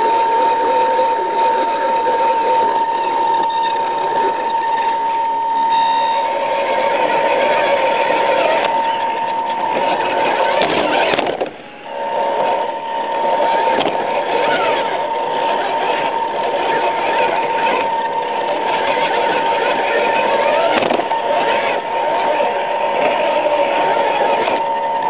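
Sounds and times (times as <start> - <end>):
rc truck motors whining: 0.0 - 25.0.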